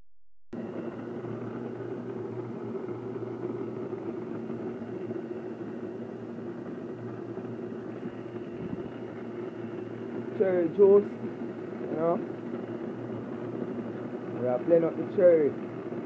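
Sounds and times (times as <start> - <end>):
blender motor whirring: 0.6 - 16.0.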